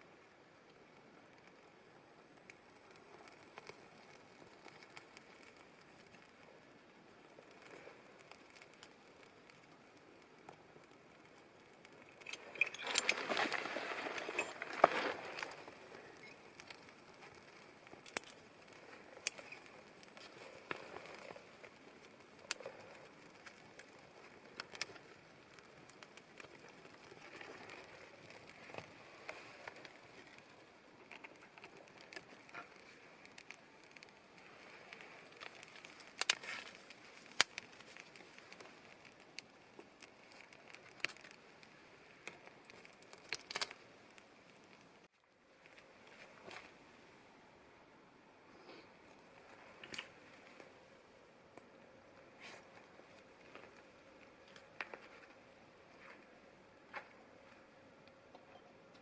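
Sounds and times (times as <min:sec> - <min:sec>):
campfire crackling and popping: 0:00.0 - 0:47.8, 0:48.5 - 0:59.0
faint fire hiss: 0:00.0 - 0:59.0.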